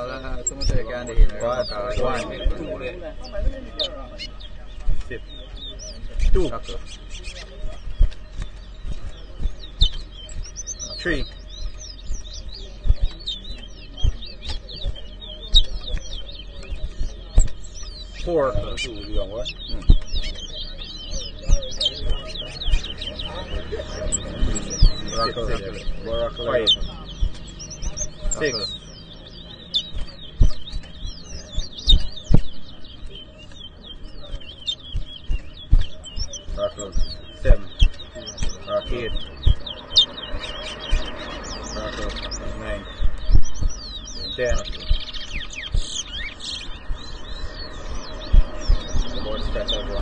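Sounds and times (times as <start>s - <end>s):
dull low thumps: 0.0s - 50.0s
finches whistling: 0.0s - 50.0s.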